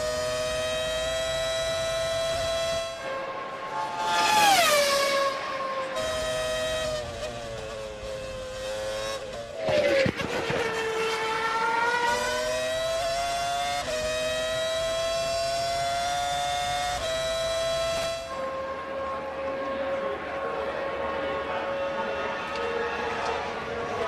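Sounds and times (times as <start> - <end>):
racing car engine at high revs: 0.0 - 24.0.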